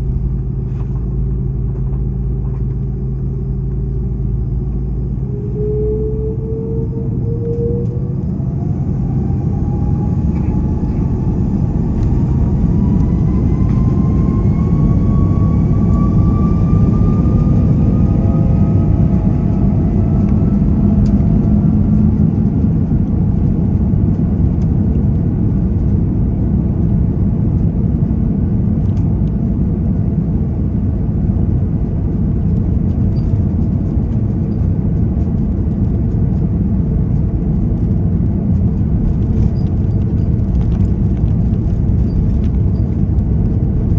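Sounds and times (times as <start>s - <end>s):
airliner engine rumble: 0.0s - 43.9s
engine whine rising in pitch: 0.0s - 43.9s.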